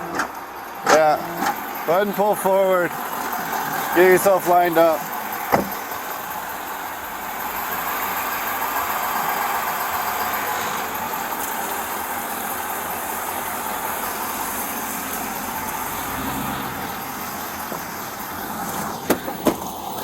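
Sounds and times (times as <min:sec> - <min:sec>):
car engine running at low speed: 0:00.0 - 0:20.0.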